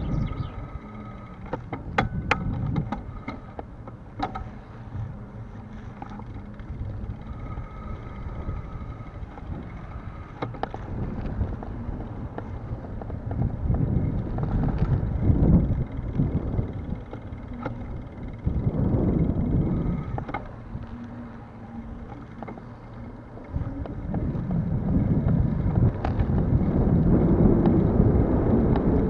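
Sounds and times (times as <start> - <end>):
bicycle tyres rolling on asphalt: 0.0 - 29.0
bike clicks and rattles: 0.0 - 29.0
wind buffeting microphone: 0.0 - 29.0.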